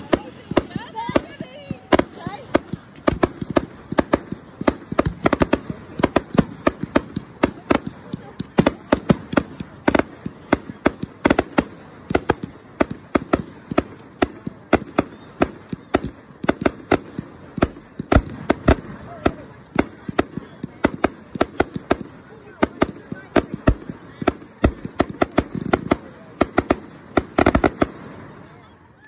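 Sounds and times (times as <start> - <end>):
fireworks bangs and pops: 0.0 - 28.6.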